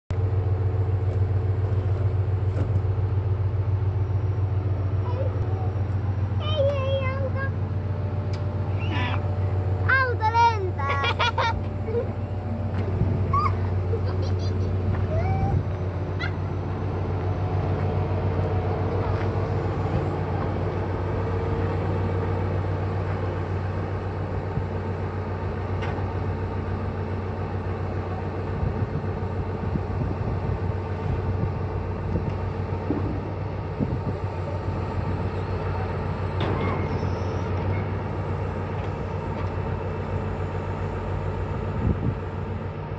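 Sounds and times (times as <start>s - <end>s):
diesel truck engine running: 0.1s - 42.9s.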